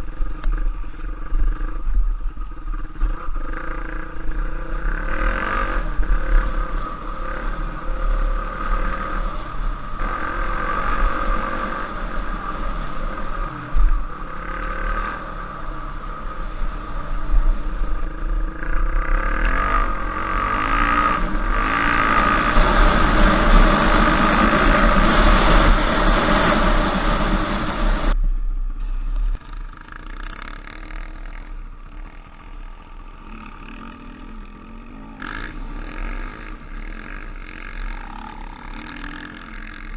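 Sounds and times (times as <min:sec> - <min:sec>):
motorbike engine revving: 0:02.7 - 0:28.2, 0:28.8 - 0:39.9.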